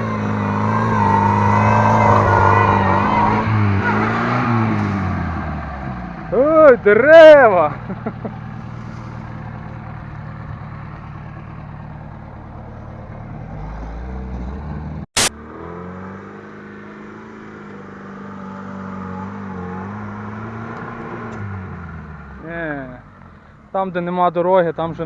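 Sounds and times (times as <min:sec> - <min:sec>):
car engine running hard: 0:00.0 - 0:23.8.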